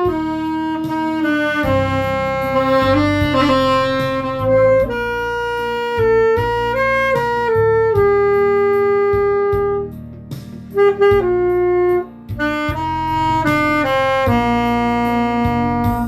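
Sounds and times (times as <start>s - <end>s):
backing accompaniment: 0.0s - 16.0s
saxophone melody: 0.0s - 16.0s.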